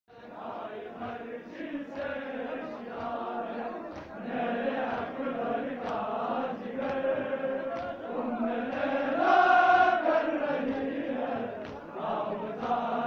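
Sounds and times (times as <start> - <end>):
crowd of men chanting: 0.1 - 13.0.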